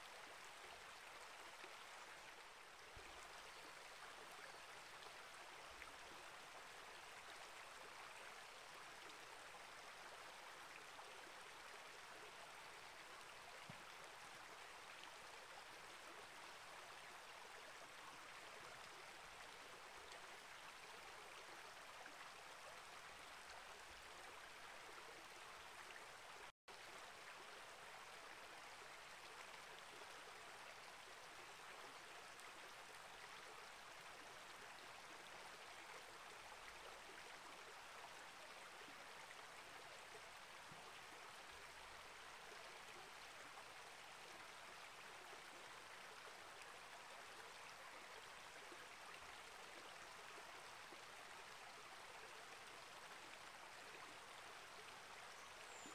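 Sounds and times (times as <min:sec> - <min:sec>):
creek water flowing: 0:00.0 - 0:55.9.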